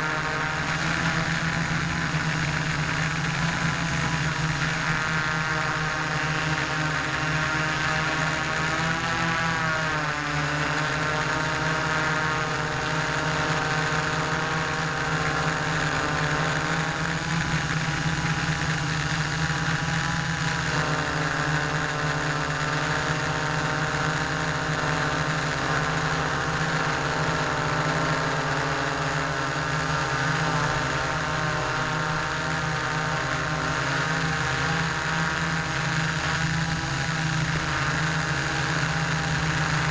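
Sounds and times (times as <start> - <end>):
drone motors and propellers whirring: 0.0 - 39.9.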